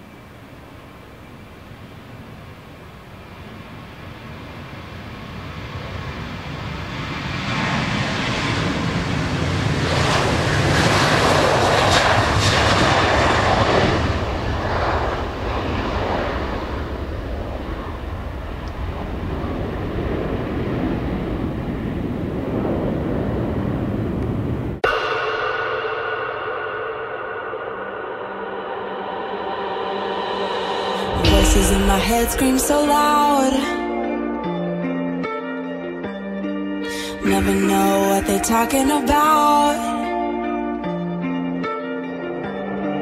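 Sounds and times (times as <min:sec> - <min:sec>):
jet aircraft taking off: 0:03.4 - 0:39.1.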